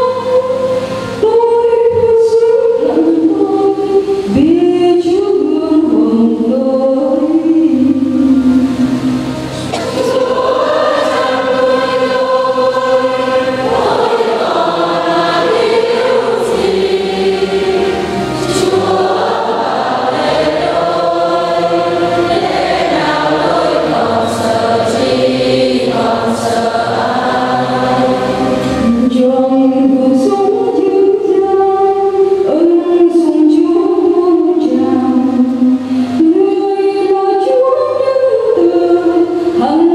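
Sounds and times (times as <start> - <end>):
choir singing a hymn: 0.0 - 39.9
low held accompaniment: 0.0 - 39.9.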